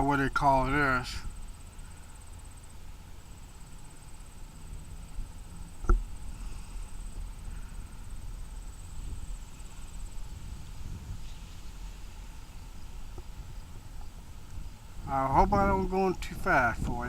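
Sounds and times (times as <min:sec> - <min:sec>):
faint high-pitched whine: 0:00.0 - 0:17.0.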